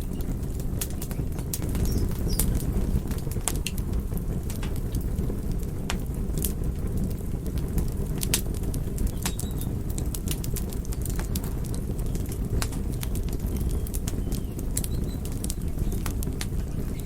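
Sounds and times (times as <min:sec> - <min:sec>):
fire burning rumble: 0:00.0 - 0:17.0
fire popping and snapping: 0:00.0 - 0:17.0.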